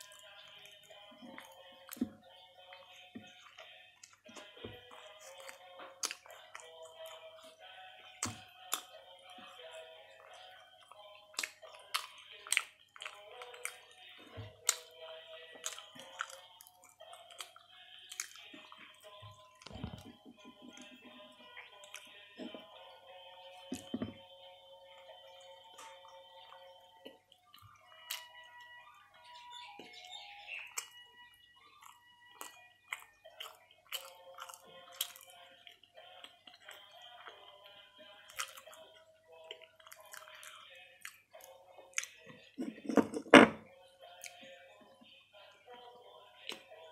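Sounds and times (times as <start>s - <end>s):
chewing toasted sandwich: 0.0s - 29.0s, 29.6s - 43.0s
faint background music: 0.0s - 46.9s.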